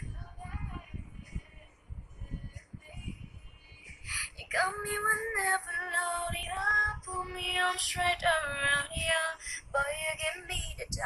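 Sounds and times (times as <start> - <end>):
woman singing slow melody: 0.0 - 11.0.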